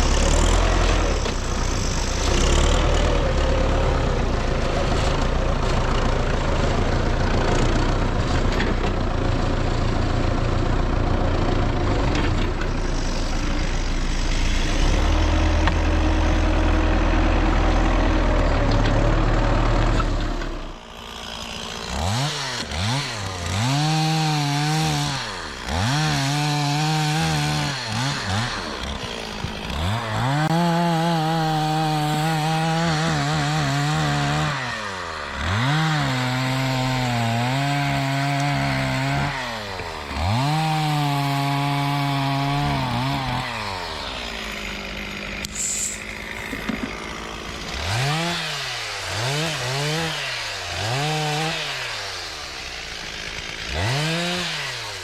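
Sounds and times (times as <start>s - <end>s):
chainsaw revving: 0.0s - 55.0s
tractor diesel engine running: 0.0s - 55.0s.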